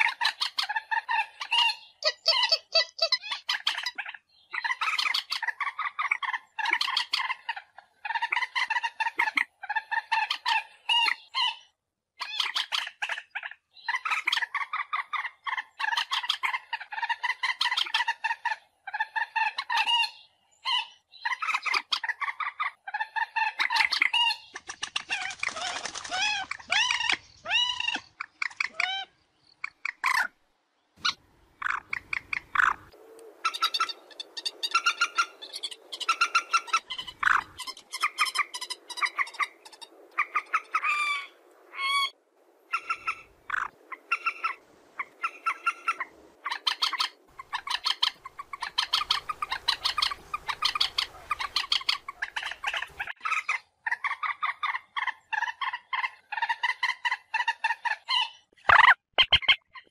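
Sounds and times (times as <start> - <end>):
moorhen calling: 0.0 - 30.4, 31.0 - 59.9.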